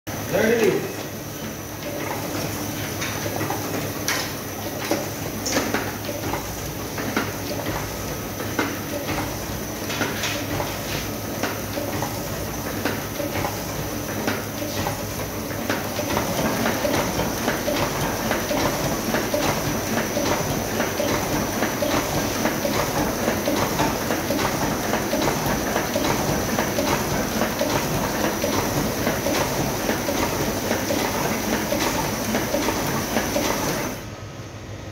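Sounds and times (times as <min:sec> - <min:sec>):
printing press hum: 0:00.1 - 0:34.9
printing press clacks: 0:00.4 - 0:34.0.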